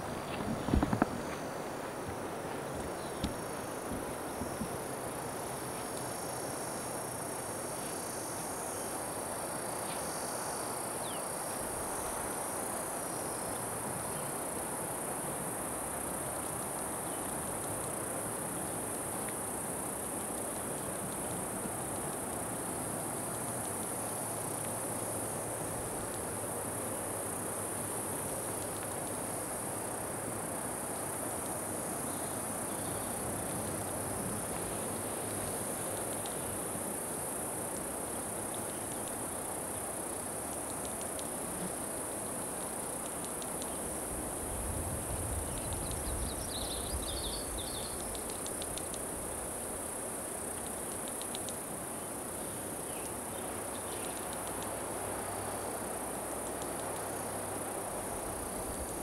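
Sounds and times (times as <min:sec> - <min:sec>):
cicadas buzzing: 0:00.0 - 0:59.0
cicada wing clicks: 0:02.8 - 0:44.5, 0:45.1 - 0:59.0.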